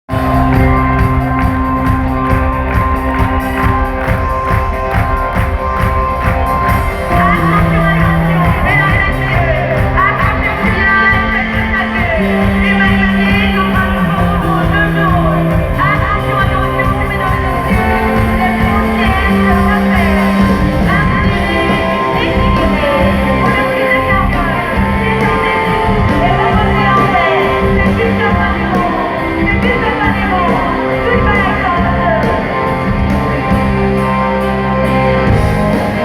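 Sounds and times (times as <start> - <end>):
pulsing drum beat: 0.1 - 34.0
person singing: 0.1 - 34.4
live rock band playing: 0.1 - 36.0.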